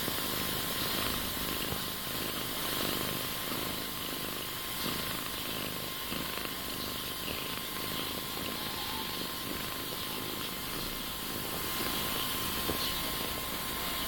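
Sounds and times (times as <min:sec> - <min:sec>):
constant hiss: 0:00.0 - 0:14.0
kitten purring: 0:00.0 - 0:14.0.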